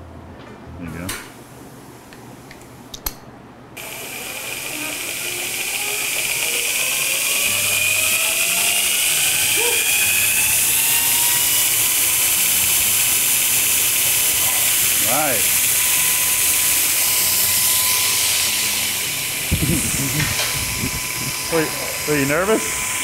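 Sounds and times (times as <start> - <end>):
belt grinder whining: 3.8 - 23.0
belt hissing over wheels: 3.8 - 23.0.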